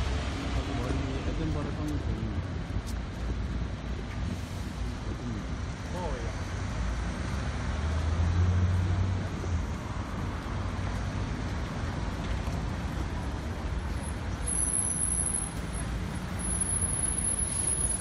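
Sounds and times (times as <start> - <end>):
passing engines and tyres: 0.0 - 18.0.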